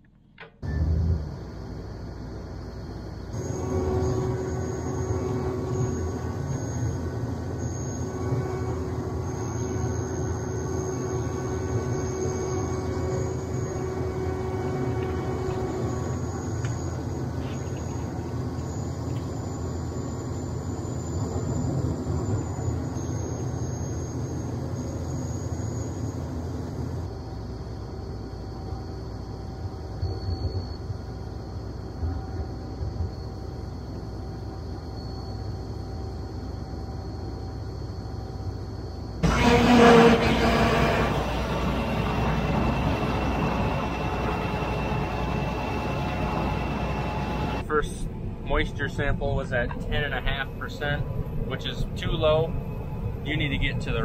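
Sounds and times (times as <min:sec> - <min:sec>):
combine harvester engine rumble: 0:00.0 - 0:54.0
faint high whine: 0:00.4 - 0:54.0.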